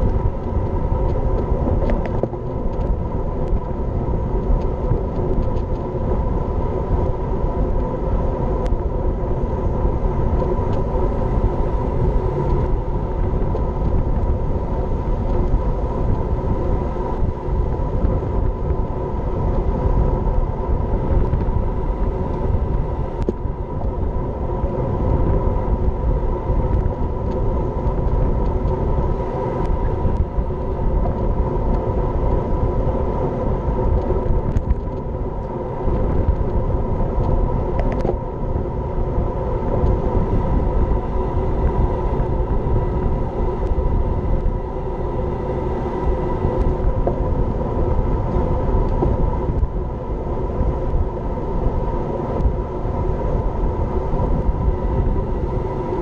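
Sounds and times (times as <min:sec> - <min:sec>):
steady hum: 0:00.0 - 0:56.0
wind buffeting camera: 0:00.0 - 0:56.0.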